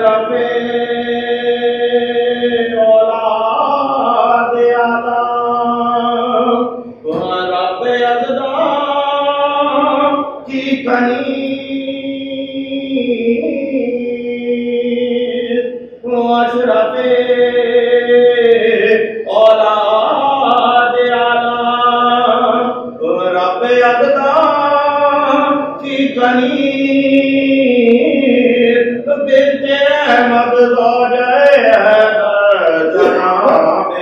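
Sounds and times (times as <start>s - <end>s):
person chanting unaccompanied: 0.0s - 34.0s.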